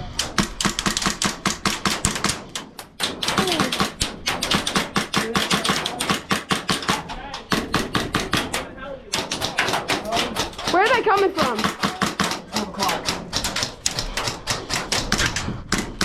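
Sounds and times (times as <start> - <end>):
airsoft guns firing: 0.0 - 16.0.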